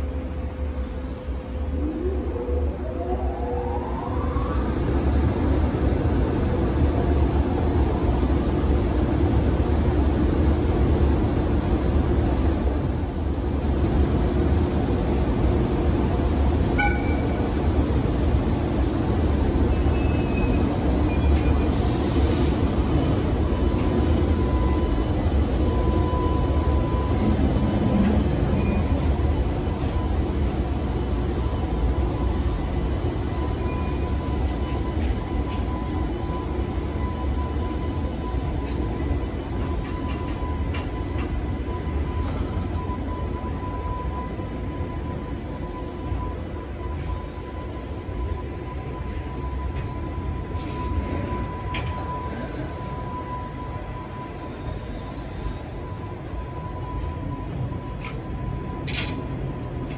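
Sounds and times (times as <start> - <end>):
electric locomotive hum and rumble: 0.0 - 59.9.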